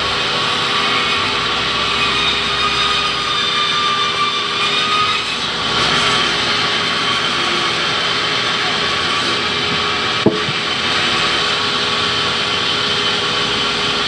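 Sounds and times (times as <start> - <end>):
band saw cutting log: 0.2 - 14.0.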